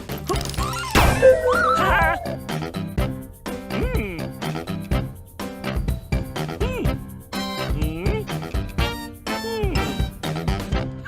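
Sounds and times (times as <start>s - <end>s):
playful children's music: 0.0s - 11.0s.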